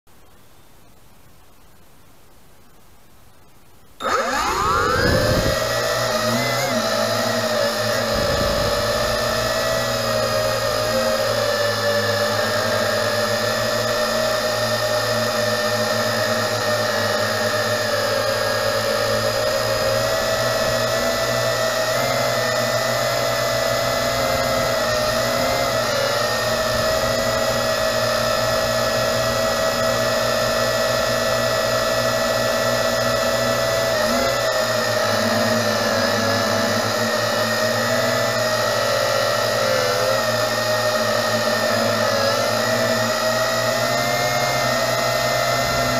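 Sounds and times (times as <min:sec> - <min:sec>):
quadcopter motors whining: 0:04.0 - 0:45.9.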